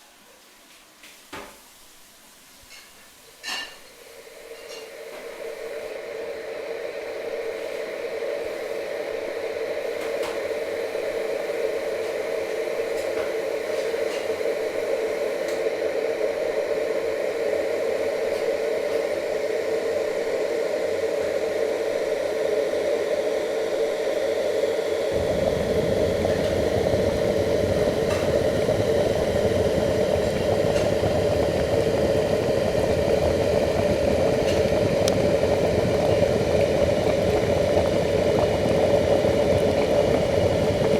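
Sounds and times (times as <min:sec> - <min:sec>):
kettle hissing: 0:01.3 - 0:40.9
deep kettle rumble: 0:03.7 - 0:40.9.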